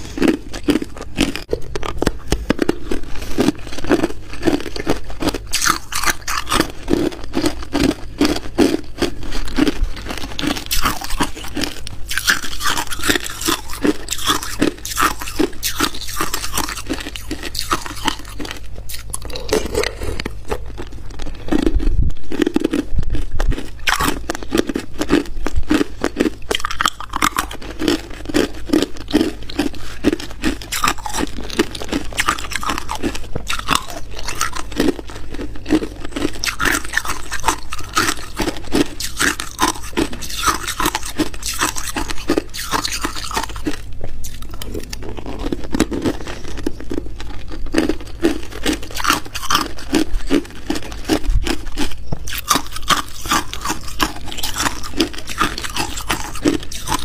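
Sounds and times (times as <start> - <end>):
ice being chewed and crunched: 0.0 - 57.0.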